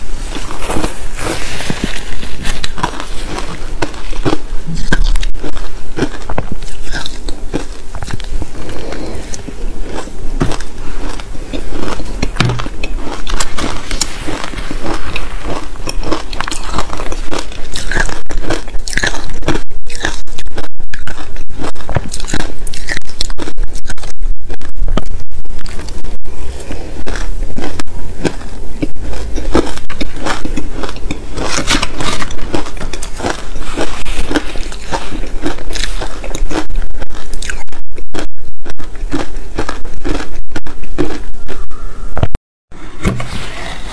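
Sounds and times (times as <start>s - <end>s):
crunching shaved ice: 0.0s - 24.1s, 25.6s - 41.6s.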